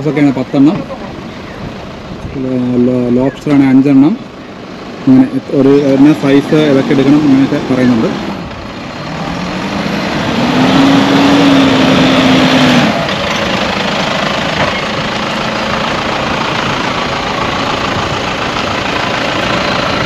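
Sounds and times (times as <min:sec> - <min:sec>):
diesel engine at low revs: 0:00.0 - 0:20.0.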